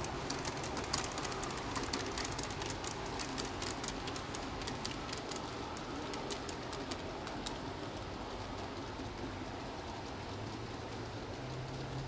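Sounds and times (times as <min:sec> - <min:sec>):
model train wheels clicking on rails: 0:00.0 - 0:12.0.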